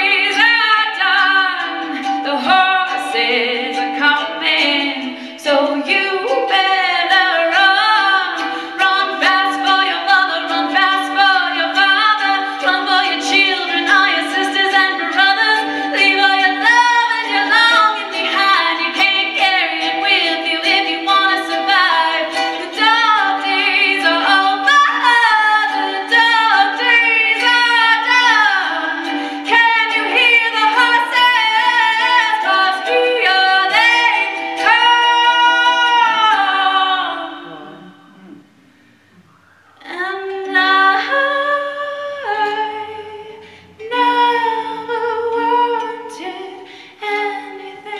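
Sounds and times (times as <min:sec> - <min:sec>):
woman singing: 0:00.0 - 0:38.2, 0:39.8 - 0:47.9
ukulele strumming: 0:00.0 - 0:47.9.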